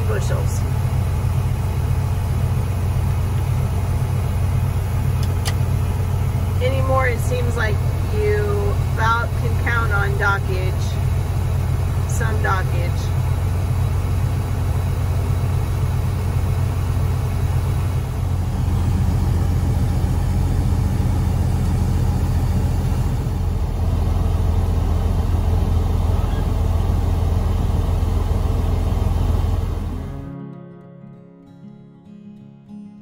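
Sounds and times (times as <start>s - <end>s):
diesel engine rumble: 0.0s - 30.3s.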